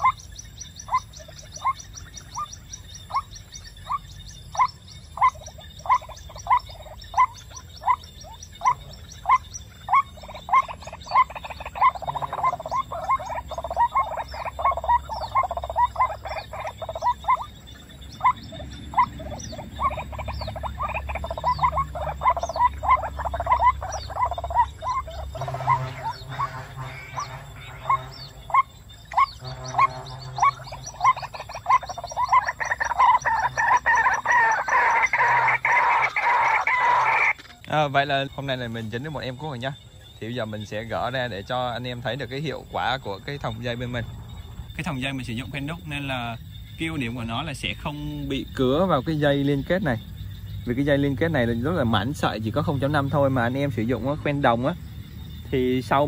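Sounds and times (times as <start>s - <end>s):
waterhen calling: 0.0s - 56.0s.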